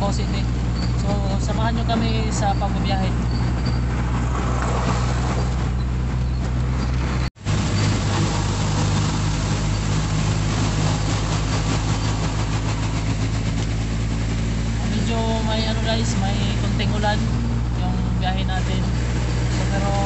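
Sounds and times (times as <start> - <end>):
engine and road drone in cabin: 0.0 - 20.0.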